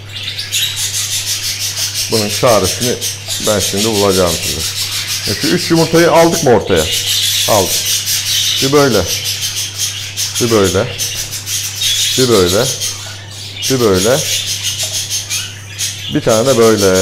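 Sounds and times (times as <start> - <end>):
budgerigar harsh calls: 0.0 - 17.0.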